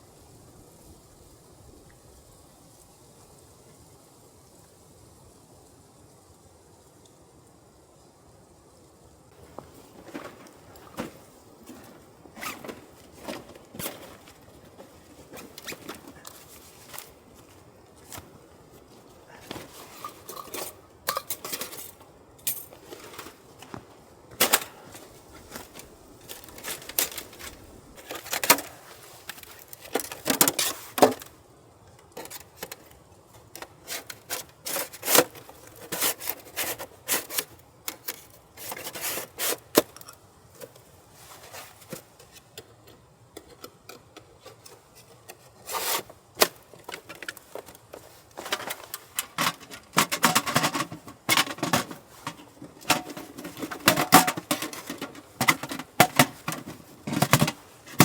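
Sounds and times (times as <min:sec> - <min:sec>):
camping gear clicking and knocking: 0:09.3 - 0:31.4, 0:32.0 - 0:58.0.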